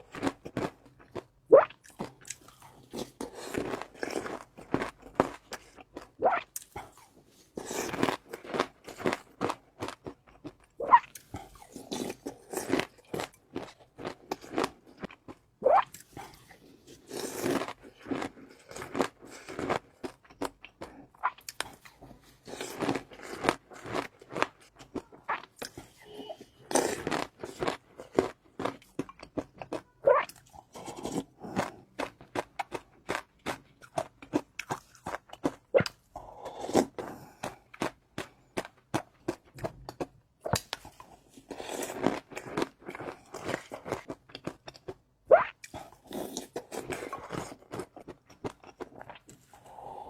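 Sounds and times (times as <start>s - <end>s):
person chewing crunchy food: 0.0s - 50.0s.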